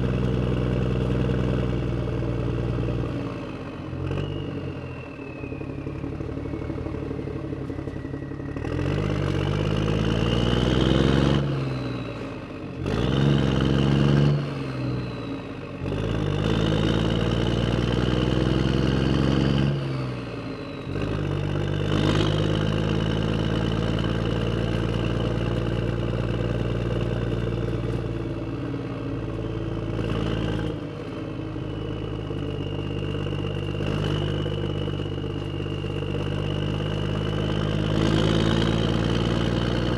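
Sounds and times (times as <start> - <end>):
vehicle engine revving: 0.0 - 4.9, 5.6 - 39.9.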